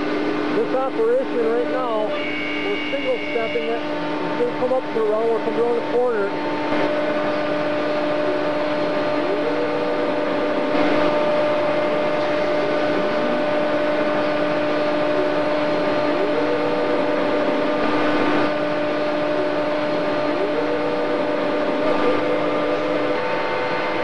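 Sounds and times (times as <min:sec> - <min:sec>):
router machine whine and hiss: 0:00.0 - 0:24.0
short rising machine whine: 0:00.0 - 0:24.0.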